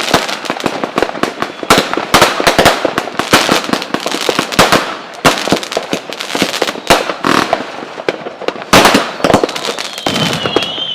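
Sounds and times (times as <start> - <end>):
fireworks bangs and crackles: 0.0 - 10.9.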